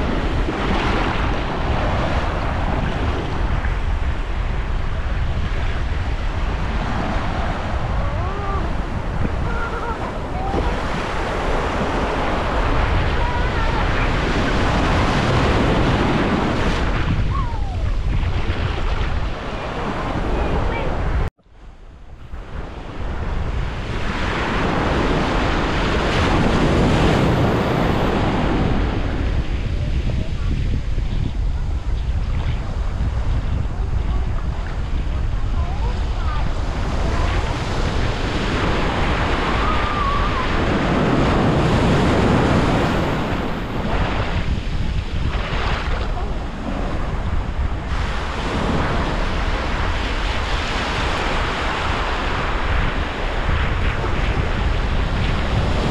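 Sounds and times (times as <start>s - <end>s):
surf breaking on beach: 0.0s - 21.3s, 22.2s - 55.9s
wind buffeting microphone: 0.0s - 55.9s.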